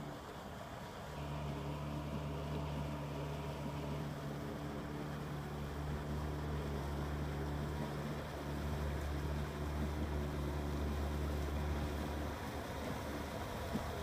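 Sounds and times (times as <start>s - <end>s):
boat motor droning: 0.0s - 14.0s.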